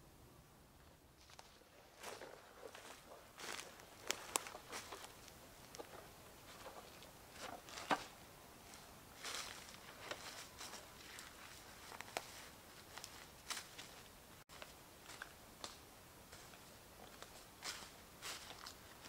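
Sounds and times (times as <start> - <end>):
footsteps crunching dry leaves: 1.2 - 19.0.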